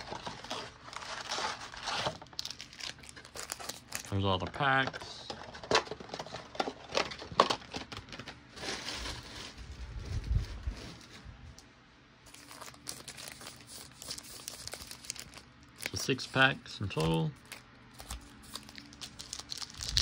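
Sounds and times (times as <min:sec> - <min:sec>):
foil wrappers crinkling: 0:00.0 - 0:11.2, 0:12.2 - 0:20.0.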